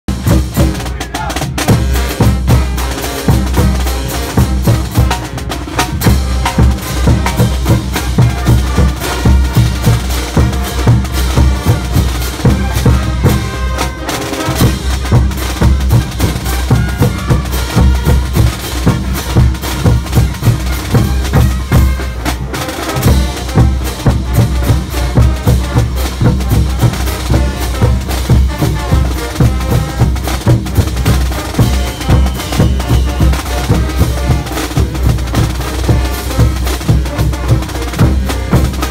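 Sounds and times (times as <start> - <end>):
bass drums: 0.1 - 38.9
snare drum: 0.1 - 38.9.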